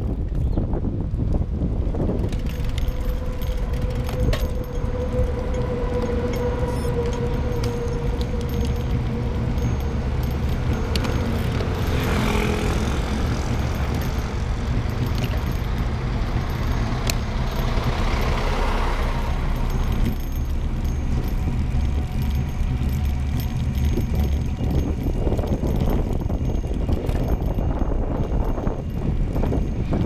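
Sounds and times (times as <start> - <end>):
wind rumble on microphone: 0.0 - 30.0
vehicle engine: 1.2 - 30.0.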